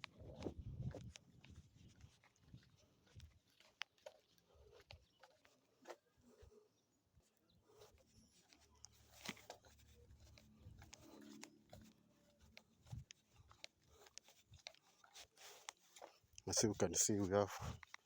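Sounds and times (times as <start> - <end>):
faint clicks and crunches: 0.0 - 18.0.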